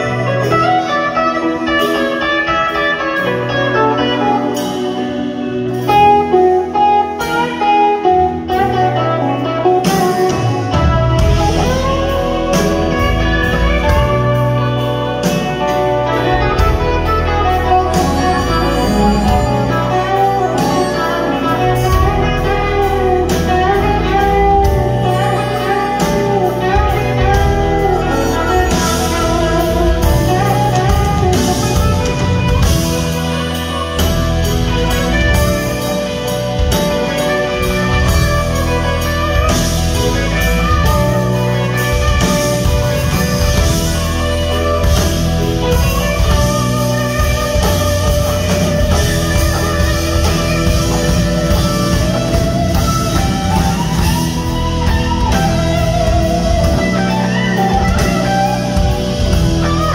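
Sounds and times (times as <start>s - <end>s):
bass: 0.0s - 59.9s
drums: 0.0s - 59.9s
electric guitar: 0.0s - 59.9s
harmonica: 0.0s - 59.9s
keyboard: 0.0s - 59.9s.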